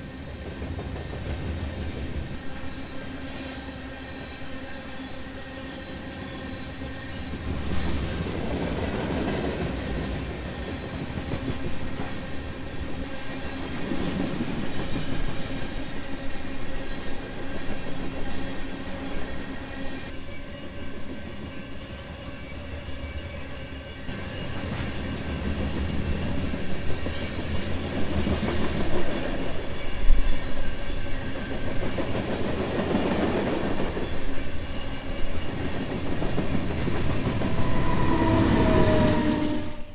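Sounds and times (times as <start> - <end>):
freight train wheels on rail: 0.0 - 39.9.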